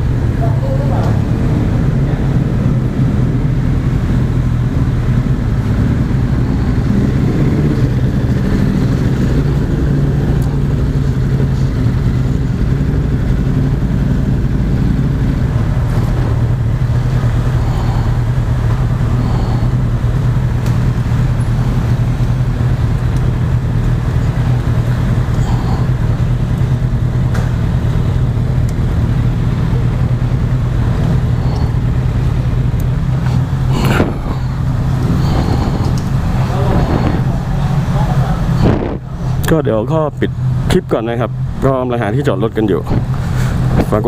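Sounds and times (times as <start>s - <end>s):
motorcycle engine droning: 0.0s - 44.0s
road and wind noise: 0.0s - 44.0s.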